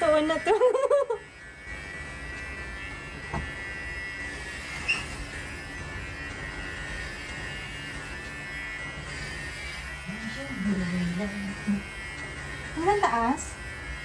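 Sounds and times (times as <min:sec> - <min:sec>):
electric hair clipper buzzing: 0:00.0 - 0:14.0.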